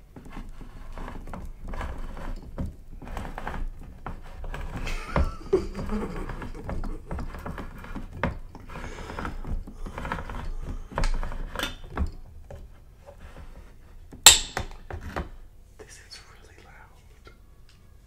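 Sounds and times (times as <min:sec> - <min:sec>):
can opener clicking and scraping: 0:00.2 - 0:15.4.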